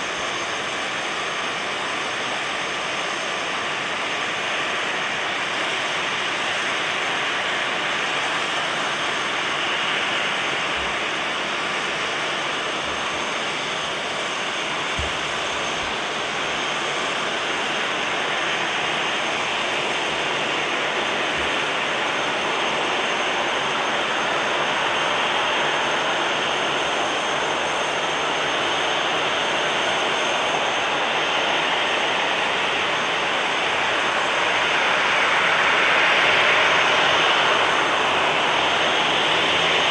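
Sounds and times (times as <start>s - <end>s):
jet engines taxiing: 0.0s - 39.9s.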